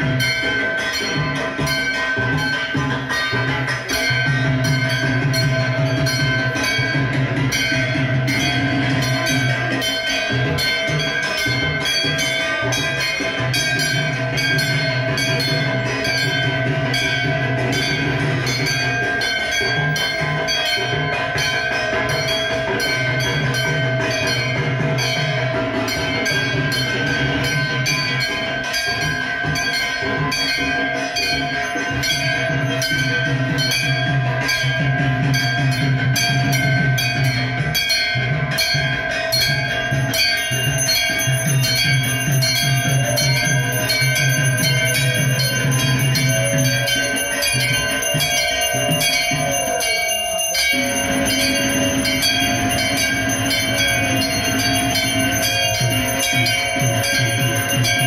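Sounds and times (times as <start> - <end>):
bells ringing fast: 0.0 - 58.0.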